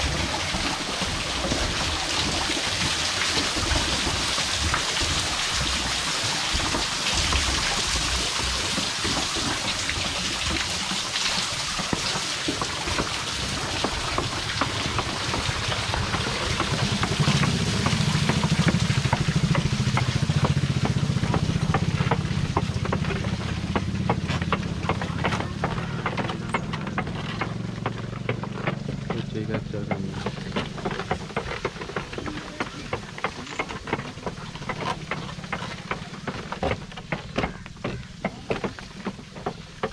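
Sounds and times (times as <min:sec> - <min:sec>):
low rhythmic wheel drone: 0:00.0 - 0:39.9
water splashing down well shaft: 0:00.0 - 0:39.9
wooden wheel clicking: 0:00.0 - 0:39.9.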